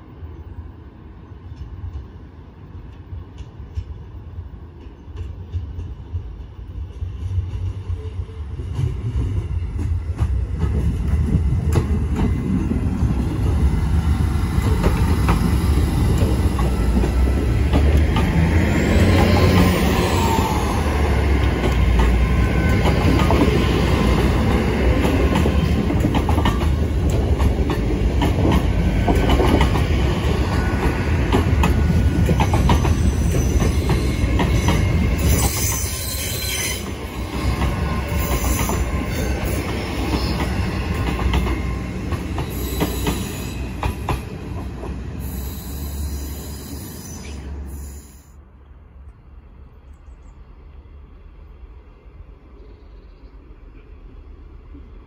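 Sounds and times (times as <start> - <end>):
train rolling past on rails: 0.0 - 55.0.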